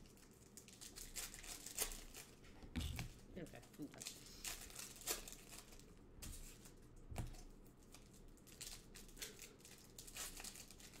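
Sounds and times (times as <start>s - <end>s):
wrappers tearing and crinkling: 0.0s - 6.8s, 7.8s - 11.0s.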